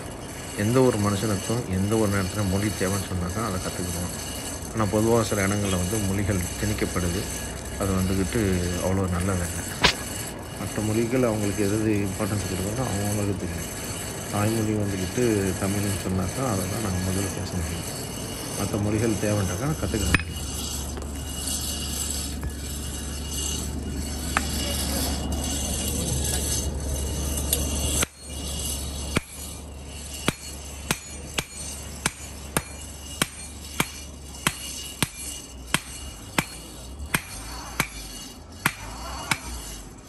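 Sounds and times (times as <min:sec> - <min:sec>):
hammer striking hot iron on anvil: 0:00.0 - 0:25.2, 0:25.8 - 0:39.8.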